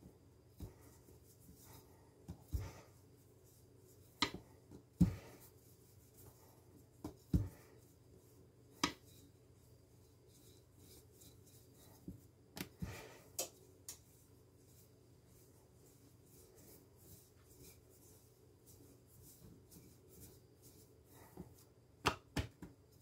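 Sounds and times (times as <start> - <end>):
rolling pin rubbing on dough: 0.0 - 21.8.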